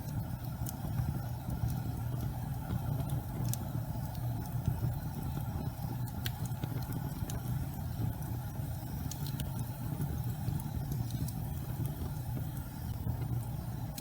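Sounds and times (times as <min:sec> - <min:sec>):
fire burning: 0:00.0 - 0:14.0
fire crackles: 0:00.0 - 0:14.0.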